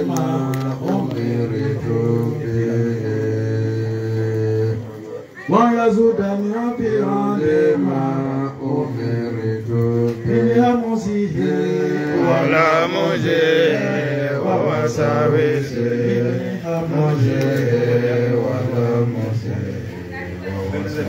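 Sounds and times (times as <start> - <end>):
man chanting melodic recitation: 0.0 - 19.8.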